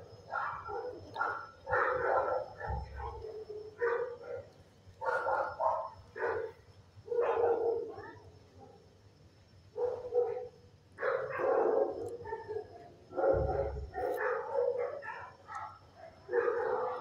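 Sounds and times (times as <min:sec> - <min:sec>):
dogs barking: 0:00.0 - 0:08.9, 0:09.7 - 0:17.0.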